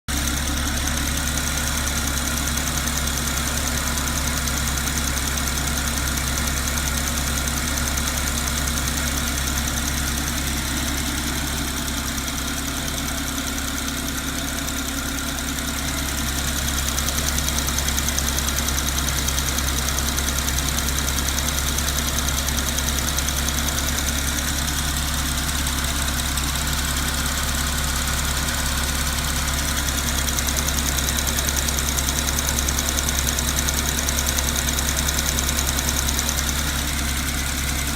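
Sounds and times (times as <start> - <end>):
car engine idling: 0.1 - 37.9
fast engine ticking: 0.1 - 37.9.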